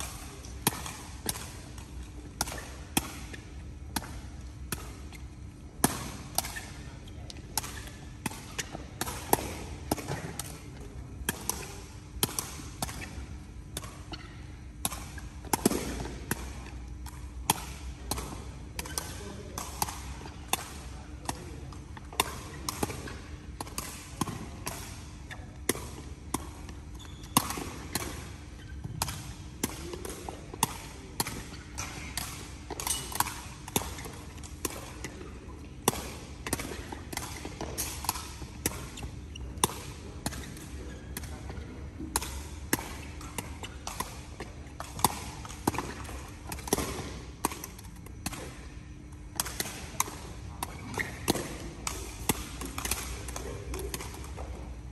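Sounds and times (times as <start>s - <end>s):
balls kicked and bouncing: 0.0s - 54.9s
steady low hum: 0.0s - 54.9s.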